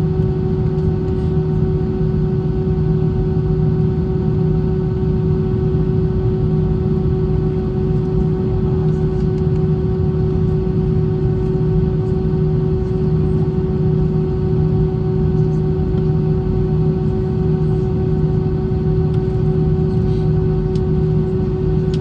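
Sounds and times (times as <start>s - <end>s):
constant hum: 0.0s - 22.0s
jet engine cabin drone: 0.0s - 22.0s.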